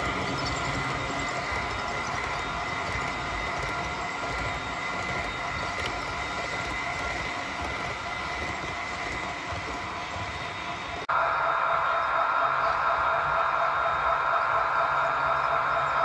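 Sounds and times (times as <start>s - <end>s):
model train wheels whirring: 0.0s - 16.0s
thin steady whine: 0.0s - 16.0s.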